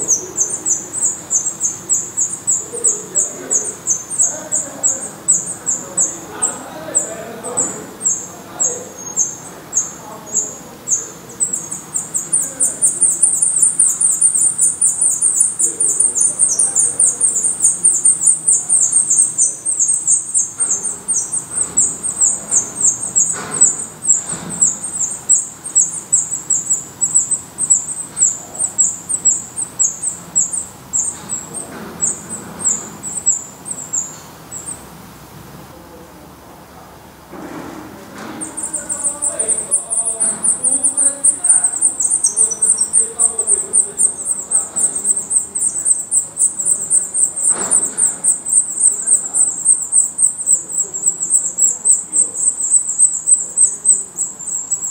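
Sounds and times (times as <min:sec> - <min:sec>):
nestlings cheeping: 0:00.0 - 0:54.9.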